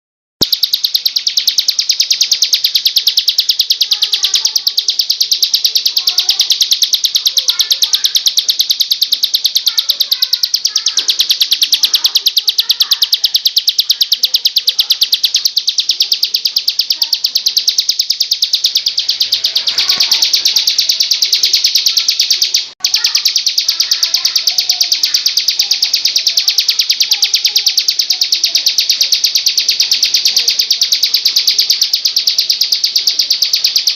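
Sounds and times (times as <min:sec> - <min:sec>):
bird singing rapid high chirps: 0:00.4 - 0:33.9
fainter lower chirps: 0:00.4 - 0:33.9.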